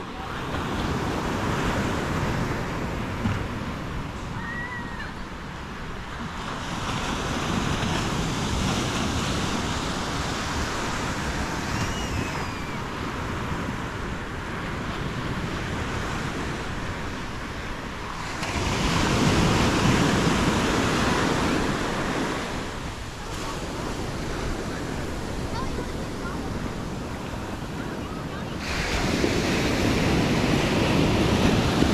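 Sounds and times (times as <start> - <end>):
surf breaking on a beach: 0.0 - 31.9
wind on the microphone: 0.0 - 31.9.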